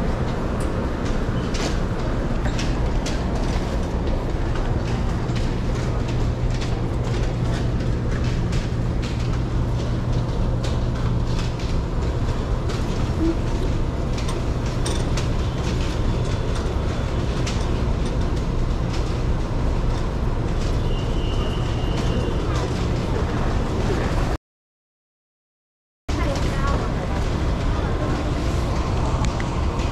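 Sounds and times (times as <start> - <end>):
train rumbling: 0.0 - 24.4, 26.1 - 29.9.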